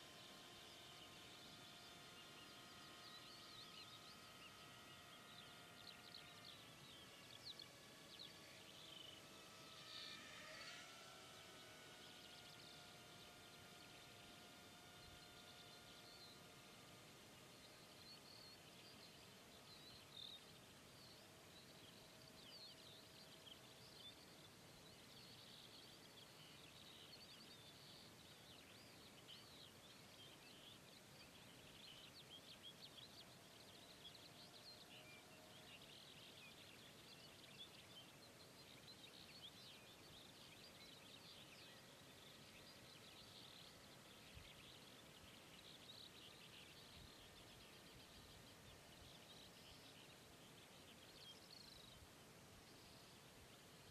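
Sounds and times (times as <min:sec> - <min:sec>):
birds chirping: 0:00.0 - 0:53.9
faint hiss: 0:00.0 - 0:53.9.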